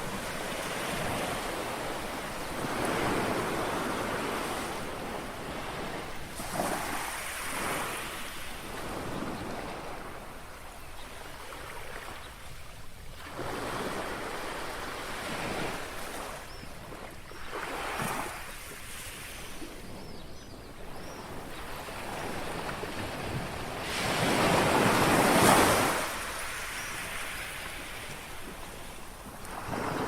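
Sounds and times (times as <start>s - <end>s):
small waves lapping on shore: 0.0s - 20.0s, 20.9s - 30.0s.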